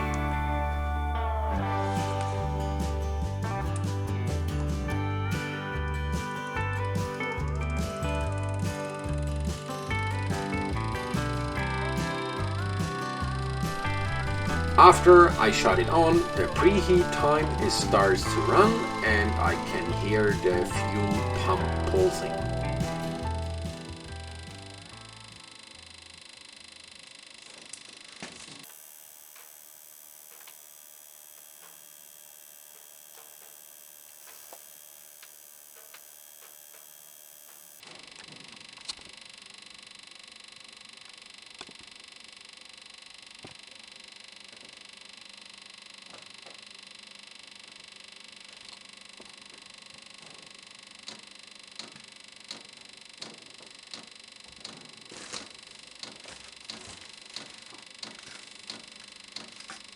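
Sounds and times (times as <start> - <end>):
heater steady high whir: 0.0 - 59.9.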